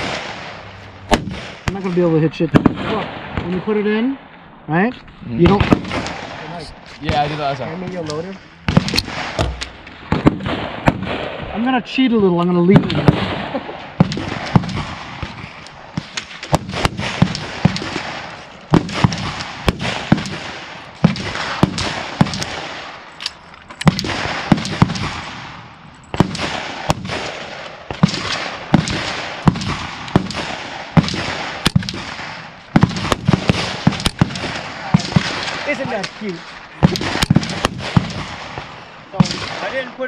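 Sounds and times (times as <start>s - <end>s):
gunfire from other shooters: 0.0s - 4.2s, 5.4s - 11.8s, 12.6s - 23.0s, 23.8s - 40.0s
rifle shots echoing: 0.0s - 4.6s, 5.3s - 40.0s.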